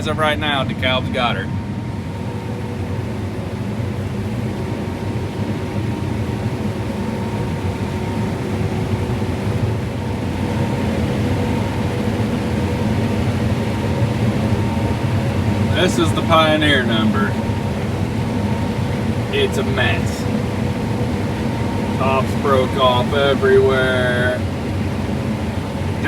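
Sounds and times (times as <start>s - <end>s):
combine harvester machinery drone: 0.0s - 26.0s
faint constant whine: 0.0s - 26.0s.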